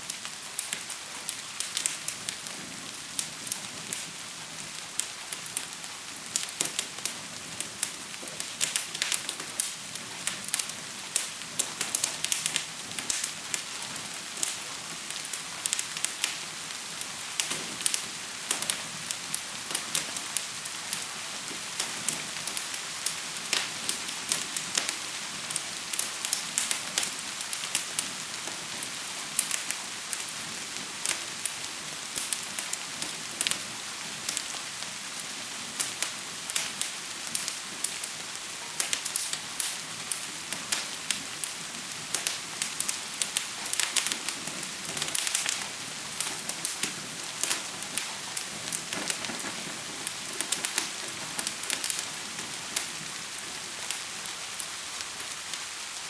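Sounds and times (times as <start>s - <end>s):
fire crackling and popping: 0.0s - 56.0s
gentle rain hiss: 0.0s - 56.0s.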